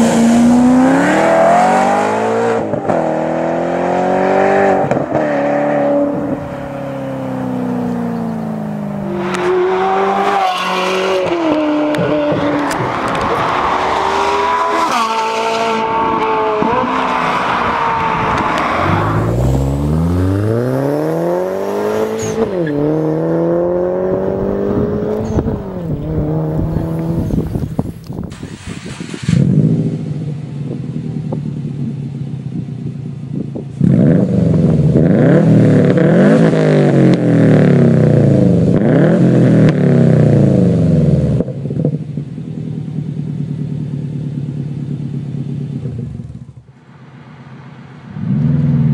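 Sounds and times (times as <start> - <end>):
car engine accelerating through gears: 0.0 - 30.1, 33.7 - 42.0, 48.1 - 48.9
car engine revving: 0.0 - 31.9, 33.6 - 42.1.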